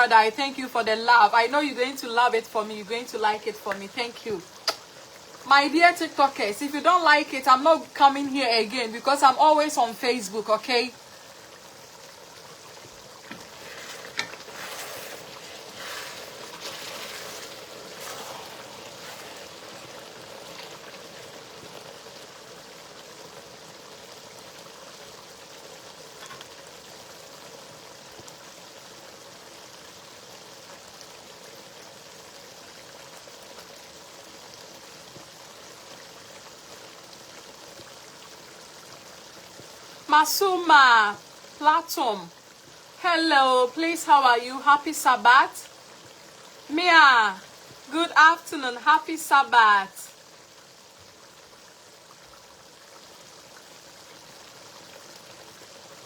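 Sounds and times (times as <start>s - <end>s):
stew bubbling in a pot: 0.0s - 56.0s.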